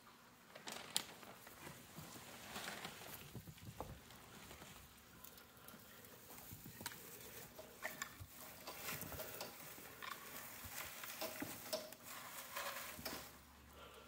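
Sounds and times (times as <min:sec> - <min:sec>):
guinea pigs munching hay: 0:00.0 - 0:14.0.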